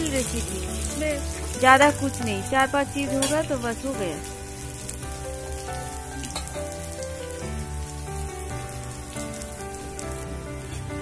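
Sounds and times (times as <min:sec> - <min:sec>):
food sizzling in hot oil: 0:00.0 - 0:11.0
soft background music: 0:00.0 - 0:11.0.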